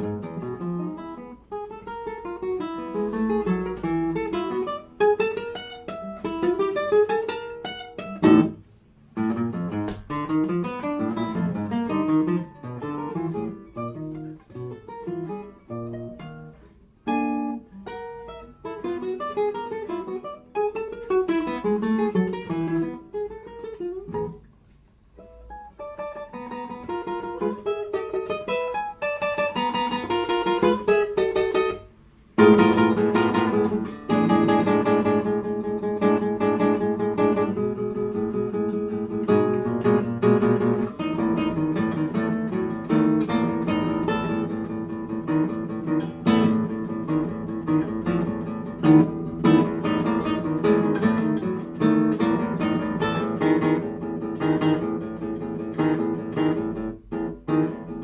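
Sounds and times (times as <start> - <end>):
classical guitar playing: 0.0 - 58.0.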